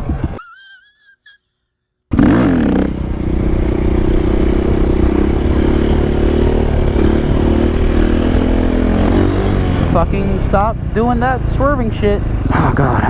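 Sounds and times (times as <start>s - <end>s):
motorcycle engine running: 2.1s - 13.0s.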